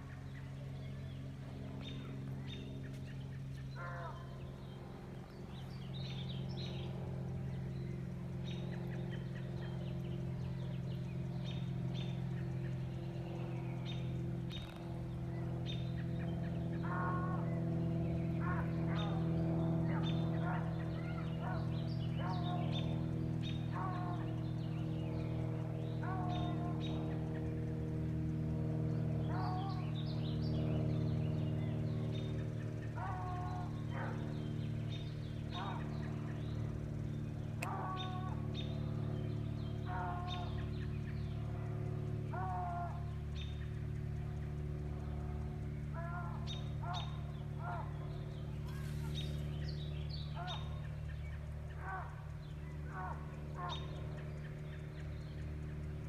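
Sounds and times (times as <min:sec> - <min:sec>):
coyotes howling and yipping: 0:00.0 - 0:56.0
steady low hum: 0:00.0 - 0:56.0
bird chirps: 0:00.1 - 0:56.0.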